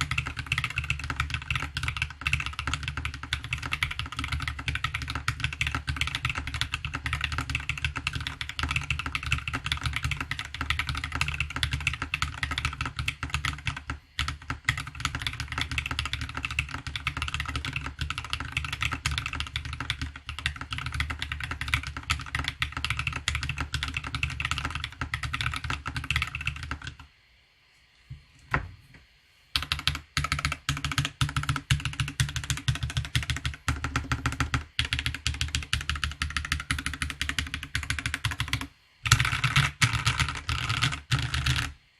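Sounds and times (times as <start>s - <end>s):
fast mechanical keyboard typing: 0.0s - 27.1s, 29.6s - 41.8s.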